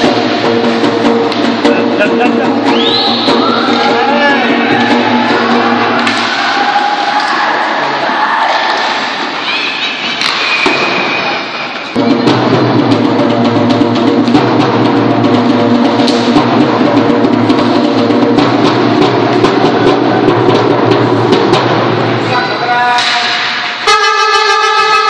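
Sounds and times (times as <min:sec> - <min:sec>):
music with drums: 0:00.0 - 0:06.9, 0:10.0 - 0:25.0
ice rink general noise: 0:00.0 - 0:12.9, 0:15.6 - 0:25.0.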